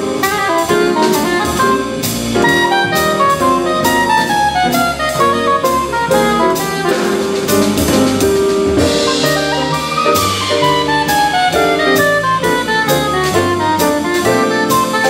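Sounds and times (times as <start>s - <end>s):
double bass walking: 0.0s - 15.0s
drum kit with cymbals: 0.0s - 15.0s
piano: 0.0s - 15.0s
saxophone and trumpet lines: 0.0s - 15.0s.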